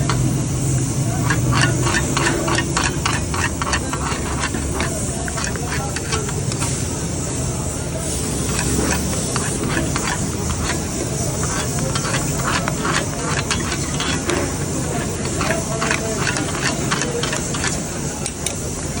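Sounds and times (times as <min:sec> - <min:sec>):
utensil clinking and scraping pan: 0:00.0 - 0:07.0, 0:08.0 - 0:18.7
meat sizzling in wok: 0:00.0 - 0:18.2.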